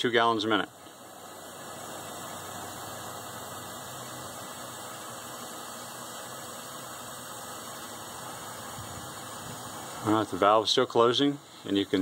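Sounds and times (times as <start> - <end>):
water flowing through pipes: 0.0 - 12.0.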